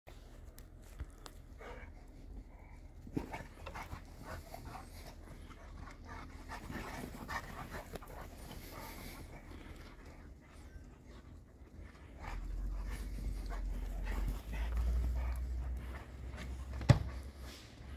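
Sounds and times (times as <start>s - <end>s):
dogs panting: 1.0s - 17.9s.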